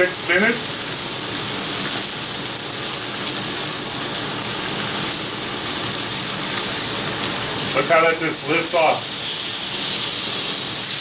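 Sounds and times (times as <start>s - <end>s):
pork chops sizzling on griddle: 0.0s - 11.0s.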